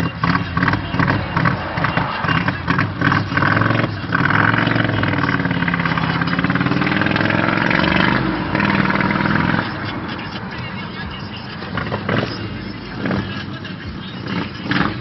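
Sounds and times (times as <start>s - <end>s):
engine exhaust running: 0.0s - 15.0s.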